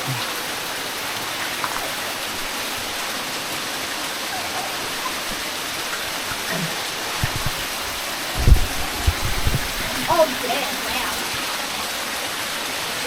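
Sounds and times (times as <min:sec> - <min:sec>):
waterfall pattering onto rock pool: 0:00.0 - 0:13.0.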